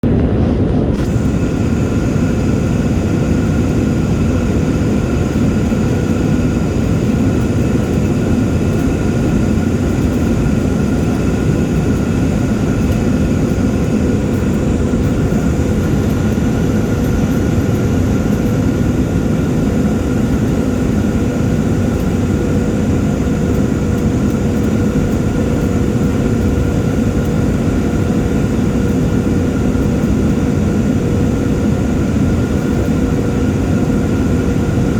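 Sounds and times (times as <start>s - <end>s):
aircraft cabin engine noise: 0.0s - 34.9s.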